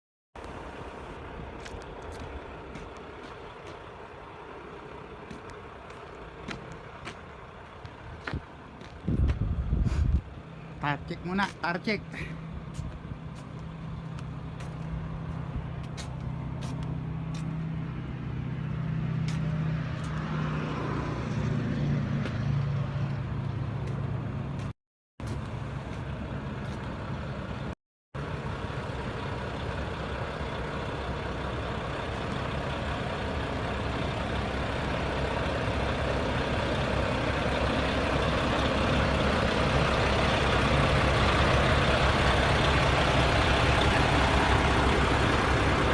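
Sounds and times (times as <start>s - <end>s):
road noise: 0.4s - 45.9s
truck engine humming: 0.4s - 45.9s.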